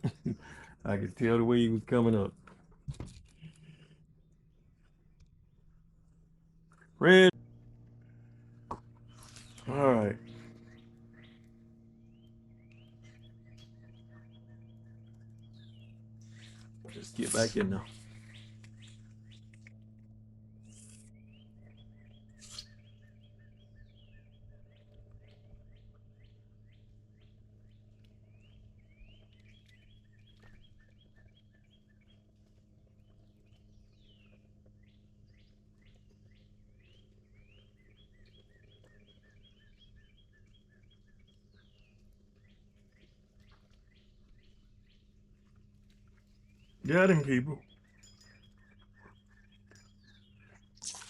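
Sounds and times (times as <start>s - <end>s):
birds chirping: 0.0s - 51.0s
low steady hum: 0.0s - 51.0s.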